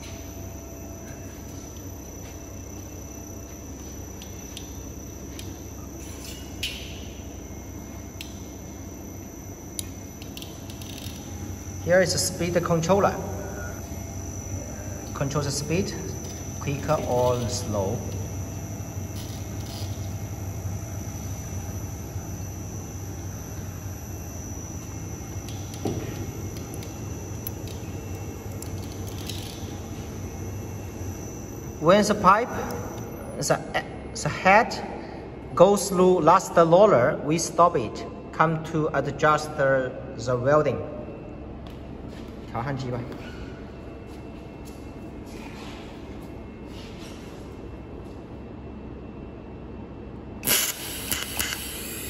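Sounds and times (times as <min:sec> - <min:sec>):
machine hum and whine: 0:00.0 - 0:52.0.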